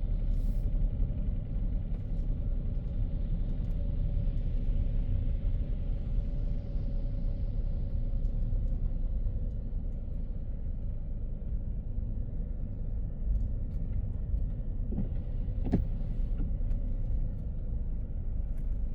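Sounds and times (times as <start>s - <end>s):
car driving on road: 0.0s - 18.9s
faint steady whine: 0.0s - 18.9s.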